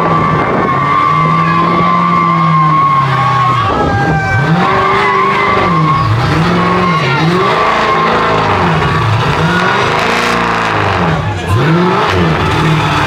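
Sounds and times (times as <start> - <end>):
car engine revving: 0.0 - 13.0
tyres squealing: 0.0 - 13.0.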